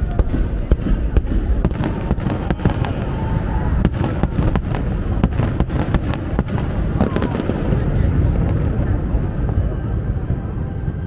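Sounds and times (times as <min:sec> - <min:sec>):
fireworks bangs and cracks: 0:00.0 - 0:09.6
rumble of fireworks bursts: 0:00.0 - 0:11.0.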